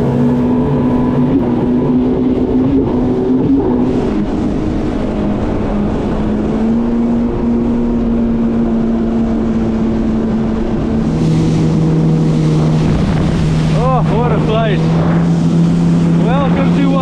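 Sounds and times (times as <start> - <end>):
watercraft engine running: 0.0 - 17.0.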